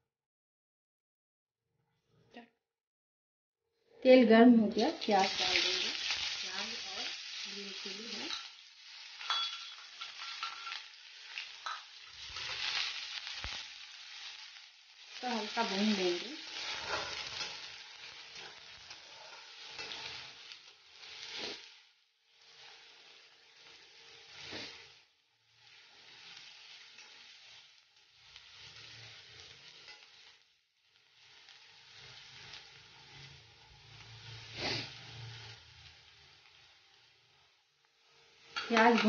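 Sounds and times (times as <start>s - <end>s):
onions sizzling in oil: 4.4s - 39.0s.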